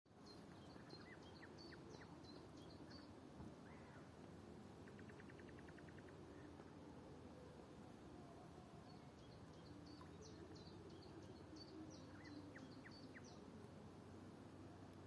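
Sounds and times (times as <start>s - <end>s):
low steady background hum: 0.1s - 15.0s
songbird singing: 0.1s - 15.0s.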